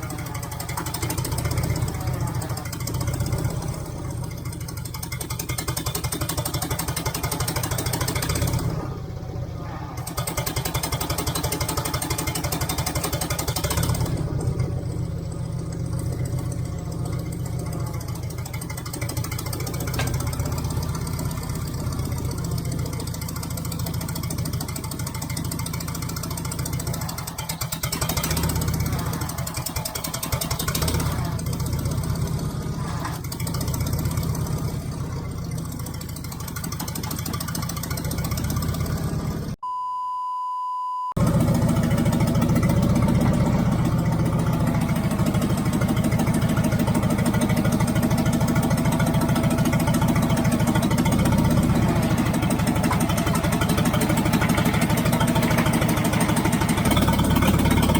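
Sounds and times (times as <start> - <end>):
loader engine running: 0.0 - 39.6, 41.1 - 57.9.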